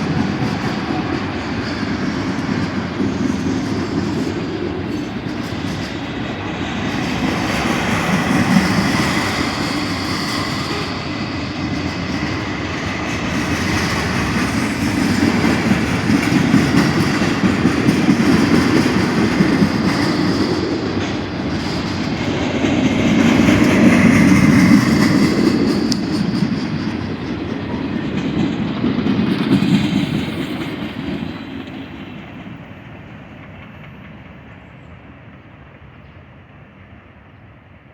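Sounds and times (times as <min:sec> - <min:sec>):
train rumbling and rattling: 0:00.0 - 0:37.9.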